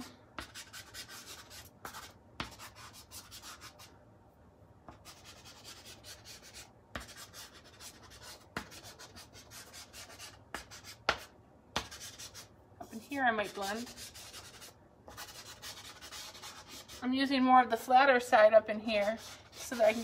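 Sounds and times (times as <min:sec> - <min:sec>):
pastel scratching on paper: 0:00.0 - 0:03.9, 0:05.0 - 0:17.0, 0:18.9 - 0:20.0.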